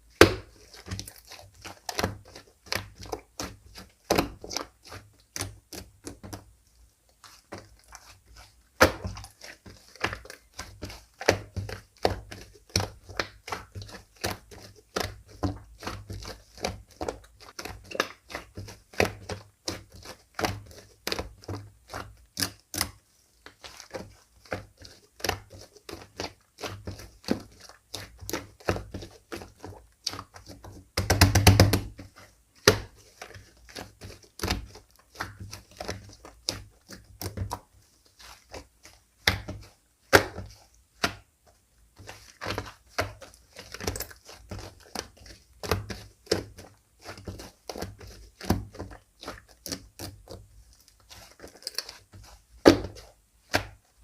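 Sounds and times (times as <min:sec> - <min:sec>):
slime kneaded by hand: 0:00.0 - 0:54.0.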